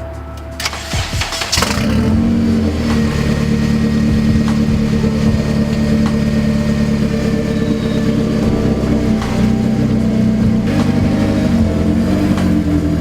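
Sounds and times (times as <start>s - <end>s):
car engine idling loudly: 1.0s - 13.0s.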